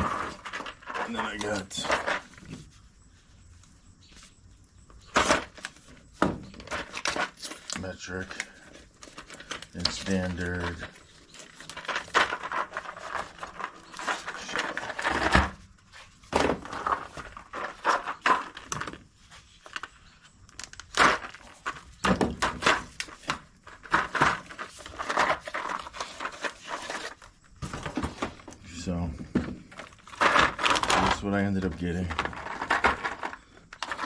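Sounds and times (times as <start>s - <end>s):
tools and packaging handled: 0.0s - 2.9s, 4.3s - 34.0s.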